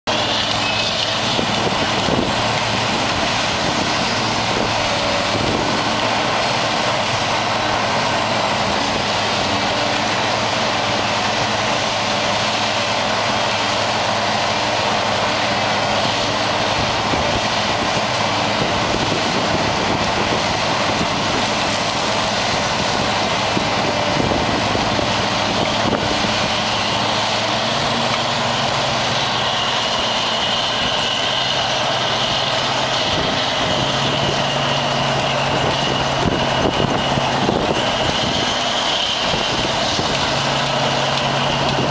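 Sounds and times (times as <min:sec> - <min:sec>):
diesel engine drone: 0:00.0 - 0:41.9
mechanical rush: 0:00.0 - 0:41.9.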